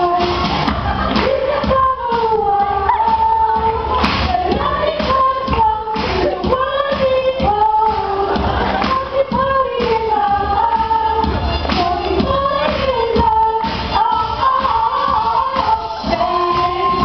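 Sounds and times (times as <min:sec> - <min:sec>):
backing music with steady beat: 0:00.0 - 0:17.0
women singing pop song: 0:00.0 - 0:17.0.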